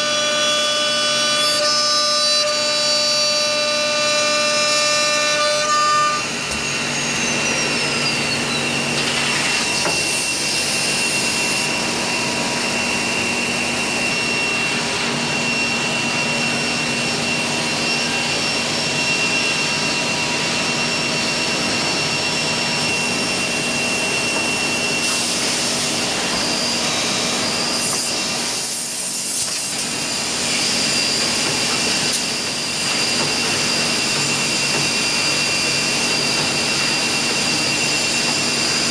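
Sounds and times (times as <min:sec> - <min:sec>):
drilling machine whine: 0:00.0 - 0:38.9.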